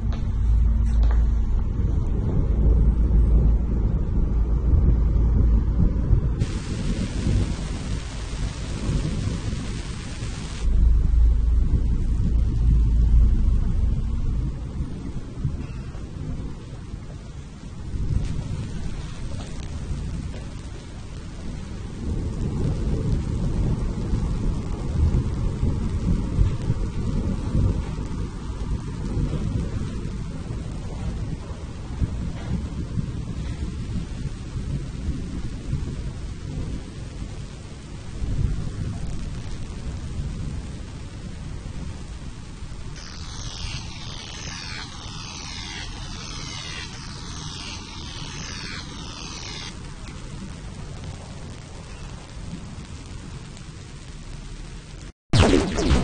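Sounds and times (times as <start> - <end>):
rolling thunder: 0.0 - 53.5, 55.4 - 56.0
rain hiss: 6.2 - 56.0.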